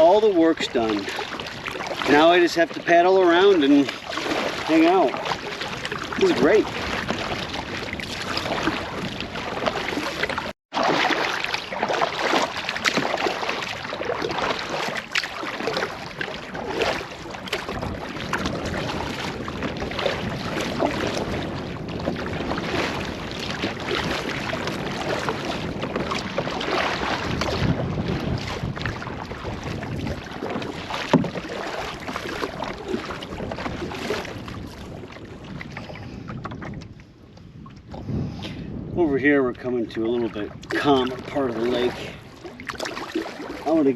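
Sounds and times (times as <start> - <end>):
wind buffeting microphone: 0.0 - 10.5, 11.4 - 43.9
paddle strokes: 0.0 - 38.2, 39.9 - 43.9
water lapping against hull: 0.0 - 43.9.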